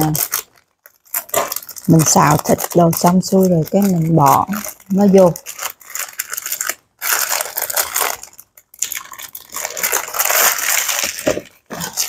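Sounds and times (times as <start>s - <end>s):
plastic packet crackling: 0.0s - 12.0s.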